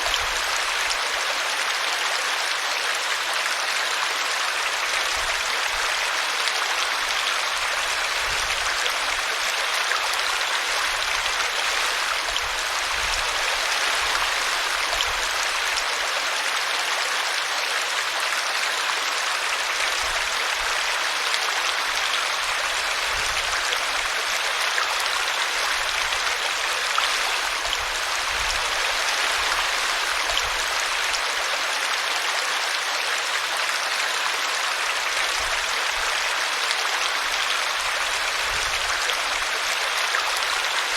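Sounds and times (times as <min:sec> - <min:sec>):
brook water flowing: 0:00.0 - 0:40.9.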